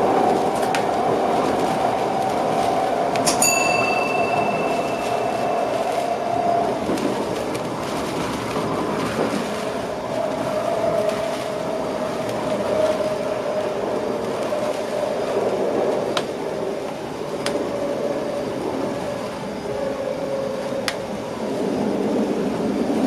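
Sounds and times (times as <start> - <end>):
train rolling rumble: 0.0 - 23.0.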